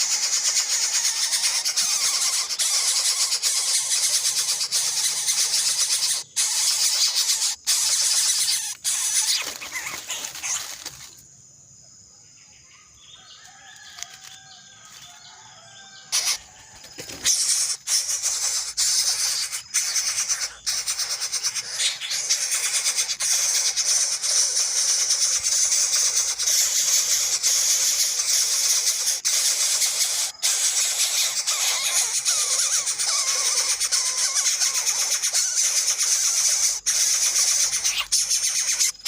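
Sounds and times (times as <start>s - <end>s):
nestling birds calling: 0.0s - 11.3s, 12.6s - 39.0s
lower bird chirps: 0.0s - 39.0s.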